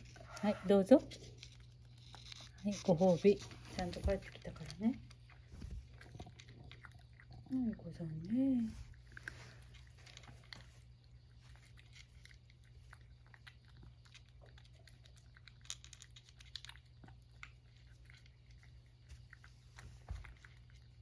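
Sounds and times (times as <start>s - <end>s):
cat chewing food: 0.0s - 21.0s.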